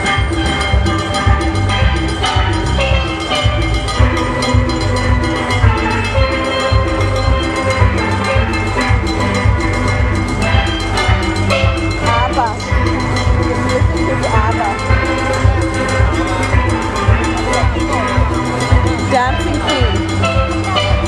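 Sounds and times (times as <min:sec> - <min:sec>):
heavy bass and drum beat: 0:00.0 - 0:21.0
steelpan notes ringing: 0:00.0 - 0:21.0.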